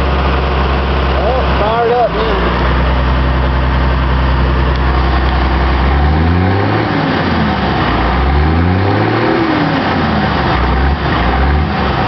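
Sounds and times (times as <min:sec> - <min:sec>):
diesel engine idling and revving: 0:00.0 - 0:12.0.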